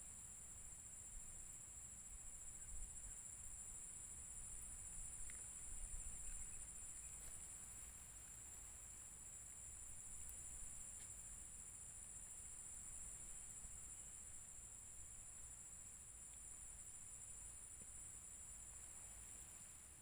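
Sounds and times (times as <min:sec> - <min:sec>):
high-pitched insect chorus: 0:00.2 - 0:20.0.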